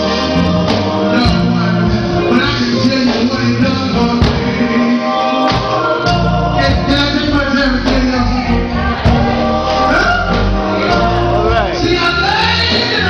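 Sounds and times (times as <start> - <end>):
band with bass and beat: 0.0 - 13.0
voices singing together: 0.0 - 13.0.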